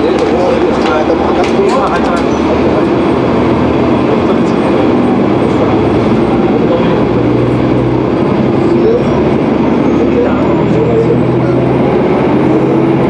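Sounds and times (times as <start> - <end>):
diesel railcar engine running: 0.0 - 13.0.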